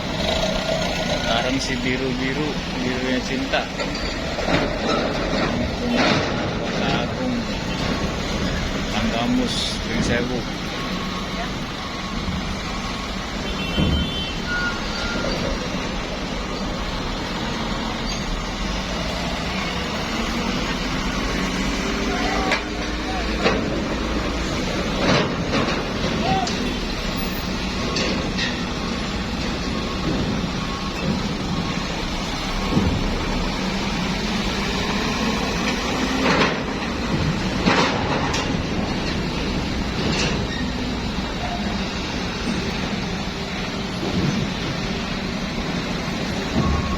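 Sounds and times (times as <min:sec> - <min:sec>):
bus engine running: 0:00.0 - 0:46.9
road noise: 0:00.0 - 0:46.9.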